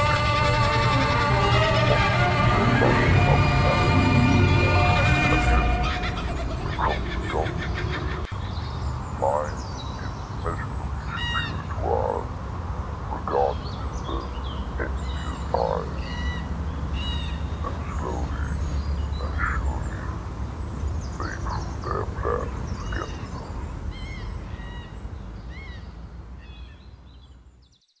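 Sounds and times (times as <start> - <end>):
steady low rumble: 0.0 - 25.4
birds chirping and calling: 0.0 - 27.5.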